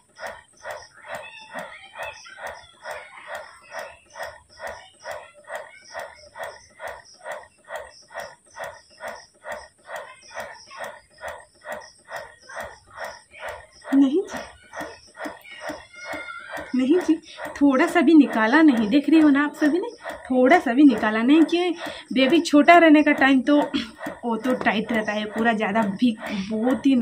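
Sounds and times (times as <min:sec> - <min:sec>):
breast pump motor pulsing: 0:00.0 - 0:27.0.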